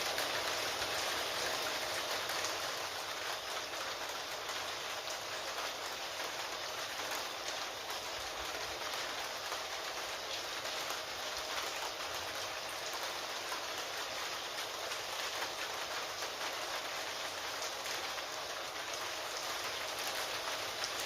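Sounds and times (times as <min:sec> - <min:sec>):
rain falling on a surface: 0:00.0 - 0:21.0.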